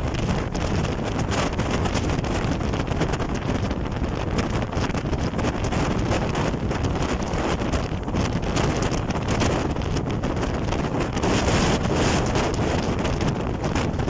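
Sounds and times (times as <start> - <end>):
boat and water rushing: 0.0 - 14.0
wind buffeting microphone: 0.0 - 14.0.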